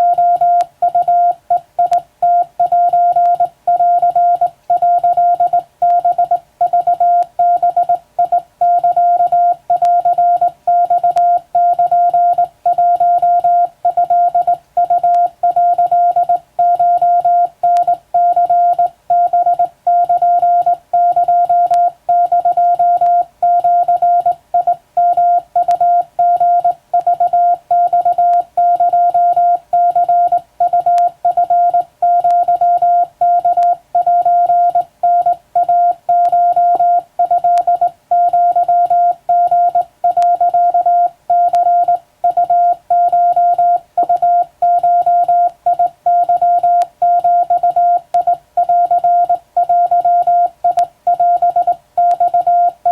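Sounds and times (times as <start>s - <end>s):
morse code beeps: 0.0s - 52.9s.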